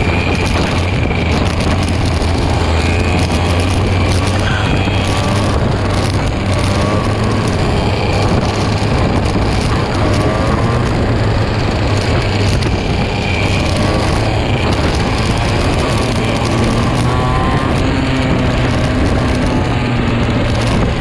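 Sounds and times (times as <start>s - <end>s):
two-stroke kart engines racing: 0.0s - 21.0s.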